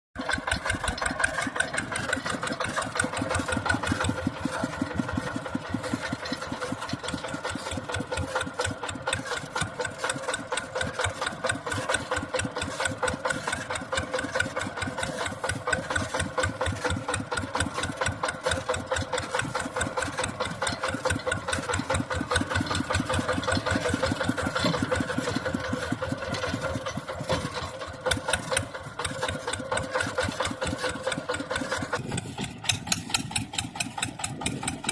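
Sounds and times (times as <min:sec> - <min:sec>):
tractor engine running: 0:00.2 - 0:34.9.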